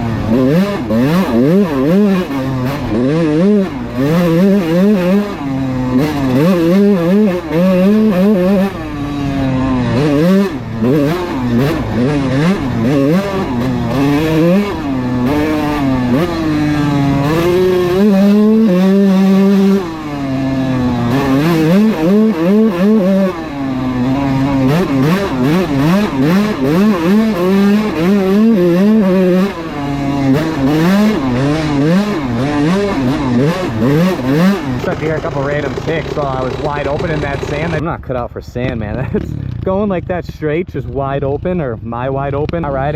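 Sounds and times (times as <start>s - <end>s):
two-stroke dirt bike engine revving: 0.0s - 42.9s.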